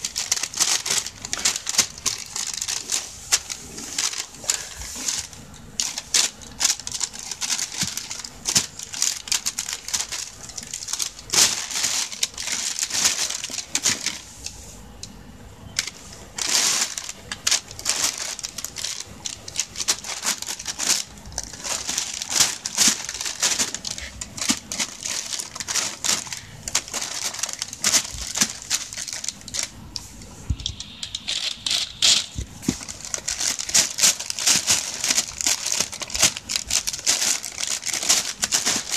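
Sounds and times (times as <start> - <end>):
plastic bag crinkling: 0.0 - 14.4, 15.8 - 38.9.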